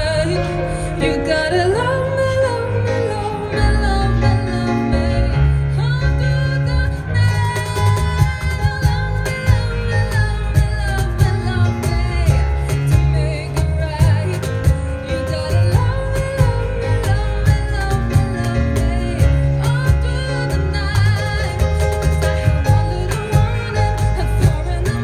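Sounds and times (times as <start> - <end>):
plucked double bass: 0.0 - 25.0
woman singing pop song: 0.0 - 25.0.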